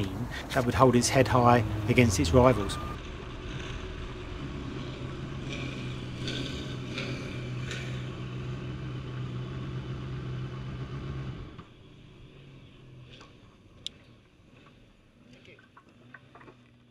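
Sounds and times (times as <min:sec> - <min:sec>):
motorcycle engine at low revs: 0:00.0 - 0:16.9.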